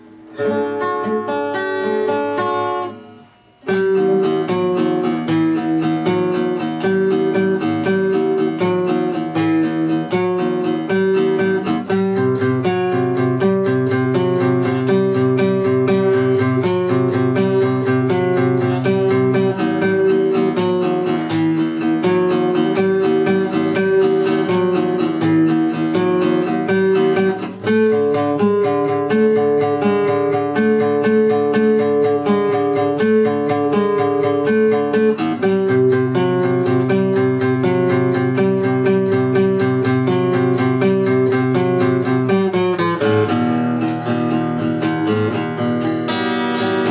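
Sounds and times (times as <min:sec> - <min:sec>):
acoustic guitar strumming chords: 0:00.0 - 0:46.9.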